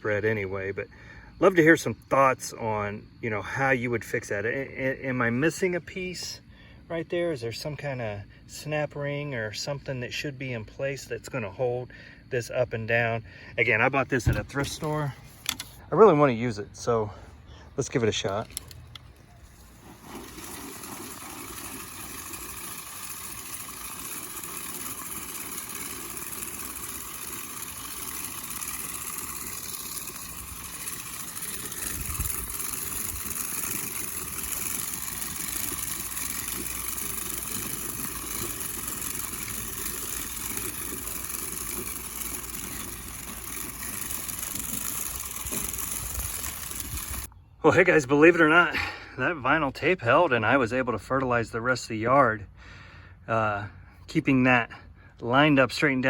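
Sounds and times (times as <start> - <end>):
spreader rattling across lawn: 1.4 - 48.6.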